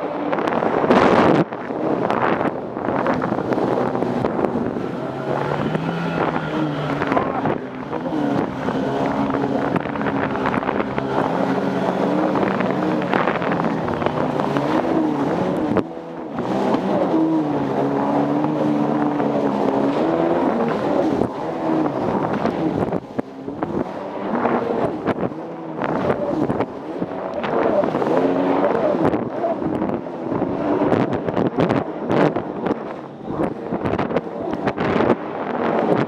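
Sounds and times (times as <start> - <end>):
jet ski engine revving: 0.0 - 36.0
wind buffeting microphone: 0.0 - 36.0.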